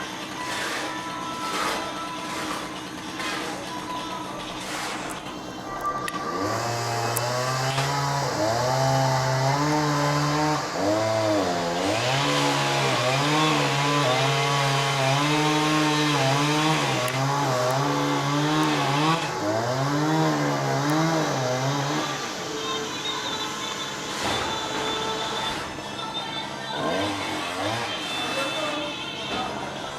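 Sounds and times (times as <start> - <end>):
chainsaw cutting wood: 0.0 - 5.4, 6.1 - 23.1, 24.0 - 25.6, 26.7 - 28.9.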